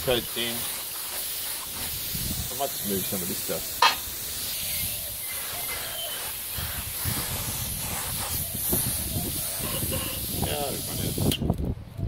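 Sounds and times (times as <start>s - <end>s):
spray gun hissing: 0.0s - 11.4s.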